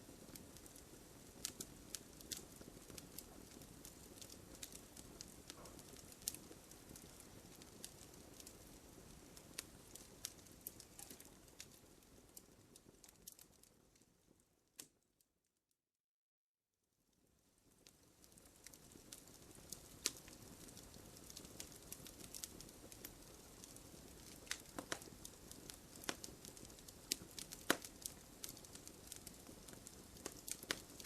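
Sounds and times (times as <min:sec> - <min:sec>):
wood fire crackling and popping: 0:00.0 - 0:15.0, 0:17.2 - 0:31.0.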